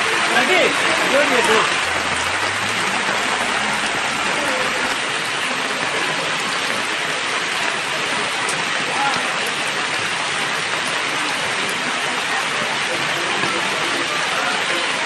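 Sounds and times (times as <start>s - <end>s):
heavy rain on water: 0.0s - 15.0s.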